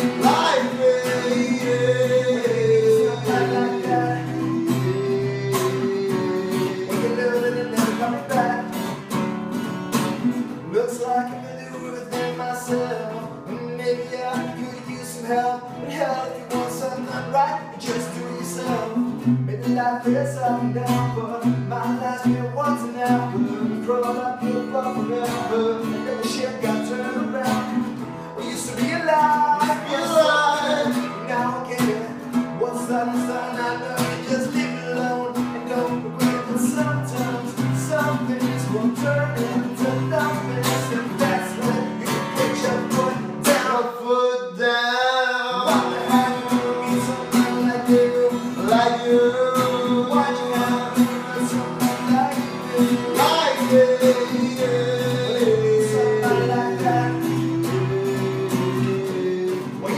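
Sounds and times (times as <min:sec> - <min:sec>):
person singing: 0:00.0 - 0:09.1, 0:10.2 - 0:59.9
acoustic guitar strumming: 0:00.0 - 0:59.9.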